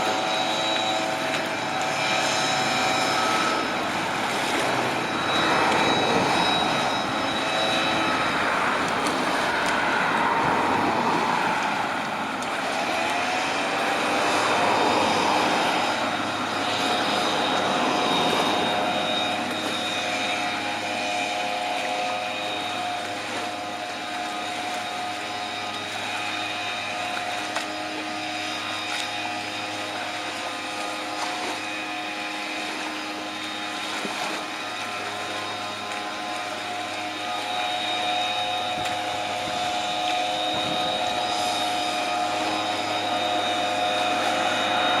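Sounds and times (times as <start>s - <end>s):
steady mechanical drone: 0.0s - 45.0s.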